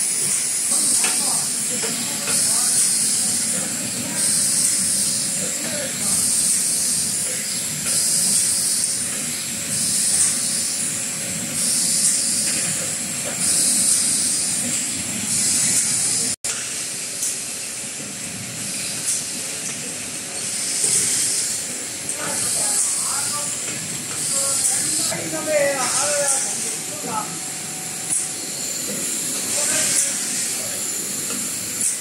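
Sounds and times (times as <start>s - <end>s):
machine high hissing: 0.0s - 17.1s, 20.2s - 32.0s.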